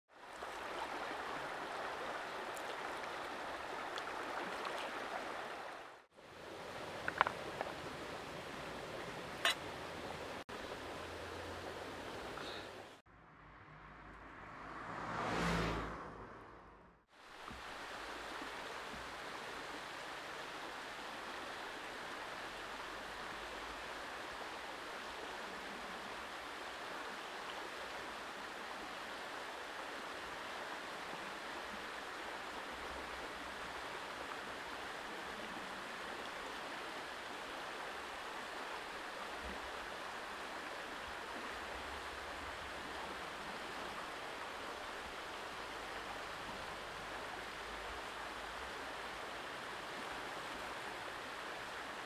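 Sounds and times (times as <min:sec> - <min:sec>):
stream water rushing: 0:00.1 - 0:13.0, 0:17.1 - 0:52.0.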